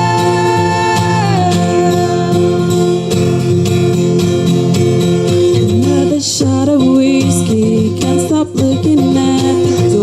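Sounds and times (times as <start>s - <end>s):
guitar accompaniment: 0.0s - 10.0s.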